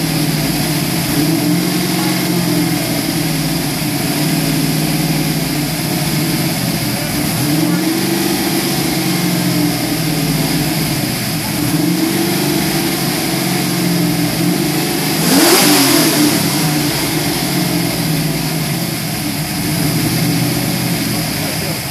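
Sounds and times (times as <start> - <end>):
engine idling: 0.0 - 21.9
engine revving: 0.0 - 21.9.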